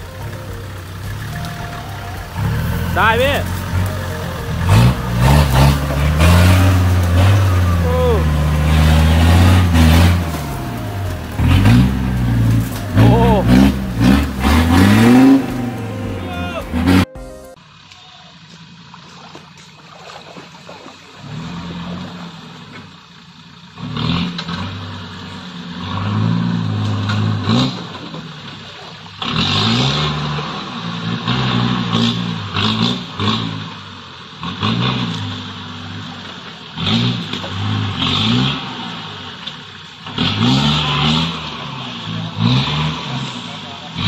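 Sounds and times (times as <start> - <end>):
off-road engine revving: 0.0 - 17.1, 17.8 - 44.0.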